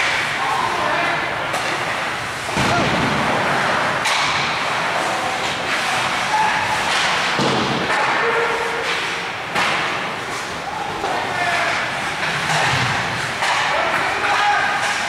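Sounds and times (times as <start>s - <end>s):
noisy rink background: 0.0s - 15.0s
puck and sticks knocking: 1.5s - 10.4s, 11.0s - 15.0s.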